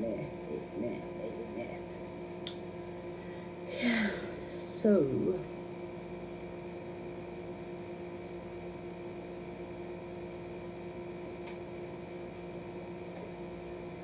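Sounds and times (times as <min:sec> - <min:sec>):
mechanical appliance hum: 0:00.0 - 0:14.0.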